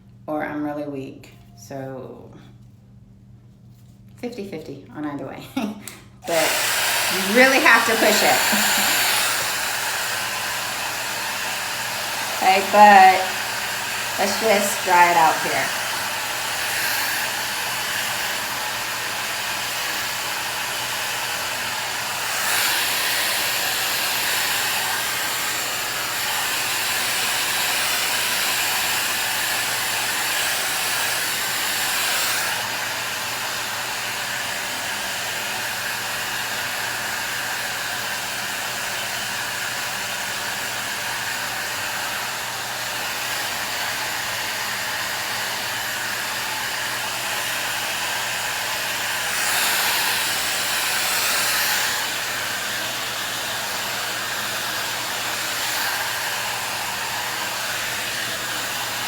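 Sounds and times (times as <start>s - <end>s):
hair dryer blowing: 5.8s - 59.0s.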